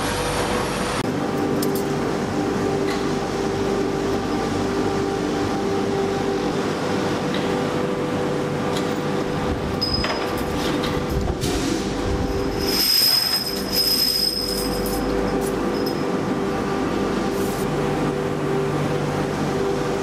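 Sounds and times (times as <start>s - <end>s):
factory machinery humming: 0.0s - 20.0s.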